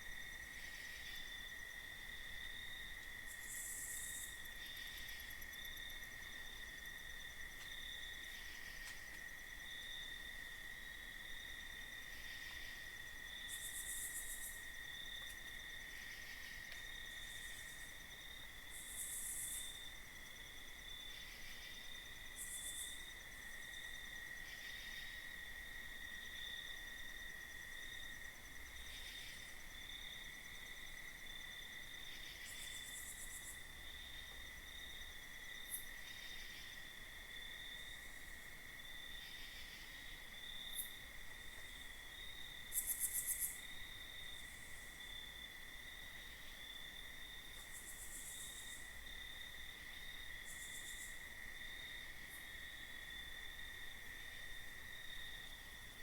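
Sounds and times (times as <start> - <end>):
crickets trilling: 0.1 - 56.0.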